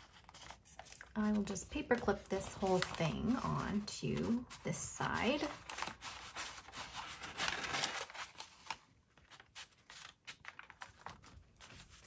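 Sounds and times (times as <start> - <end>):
paper rustling and scraping: 0.0 - 12.0.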